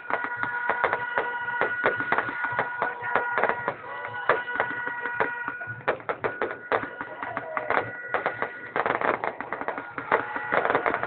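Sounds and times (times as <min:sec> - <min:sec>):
falling firework whistle: 0:00.0 - 0:11.0
fireworks cracking and popping: 0:00.0 - 0:11.0.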